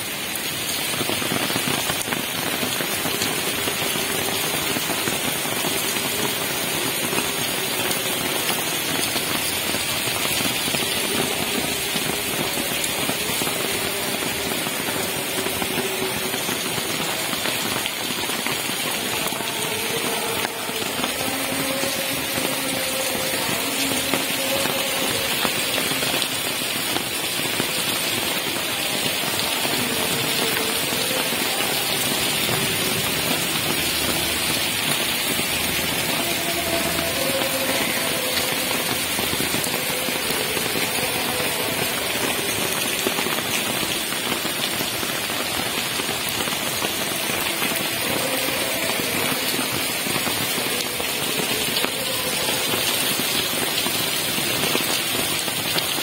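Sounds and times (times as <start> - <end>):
heavy rain on pavement and cars: 0.0 - 56.0.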